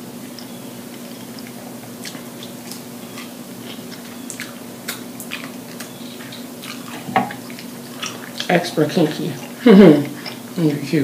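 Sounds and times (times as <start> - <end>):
steady low hum: 0.0 - 11.0
wet chewing and lip smacking: 0.2 - 10.8.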